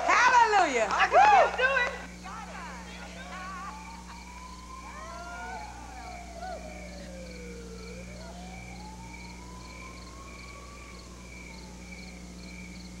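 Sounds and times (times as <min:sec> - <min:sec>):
crickets chirping: 0:00.0 - 0:13.0
faint siren wailing: 0:00.0 - 0:13.0.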